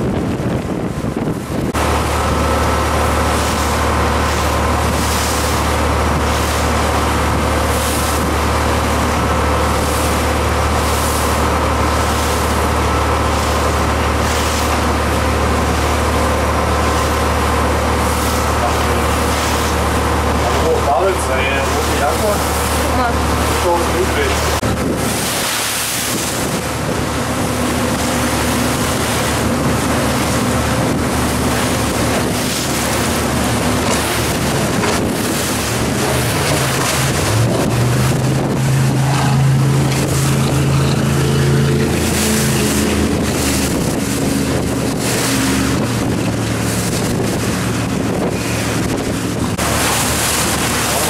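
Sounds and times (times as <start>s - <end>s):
speedboat engines running: 0.0s - 51.0s
wind buffeting microphone: 0.0s - 51.0s
spray and waves hissing: 1.7s - 51.0s.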